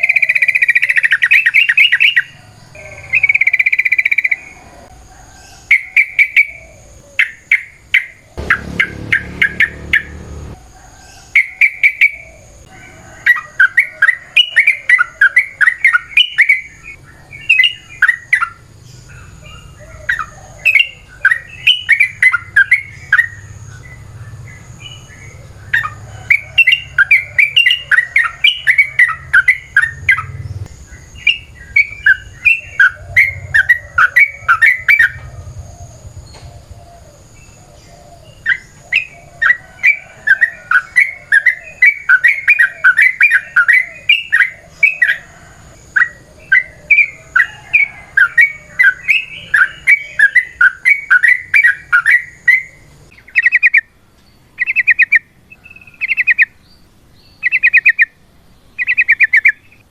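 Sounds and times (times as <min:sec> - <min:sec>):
bird chattering song: 0:00.0 - 0:12.7, 0:13.3 - 0:59.9.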